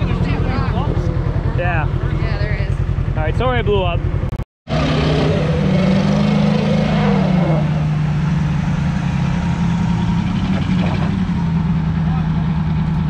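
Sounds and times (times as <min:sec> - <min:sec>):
vehicle engines droning under load: 0:00.0 - 0:13.0.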